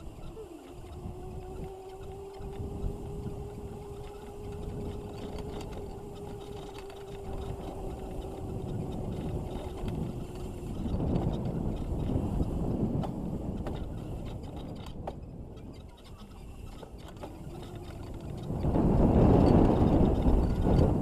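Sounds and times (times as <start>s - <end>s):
electric motor whine: 0.0s - 21.0s
rumble of tyres and wind: 0.0s - 21.0s.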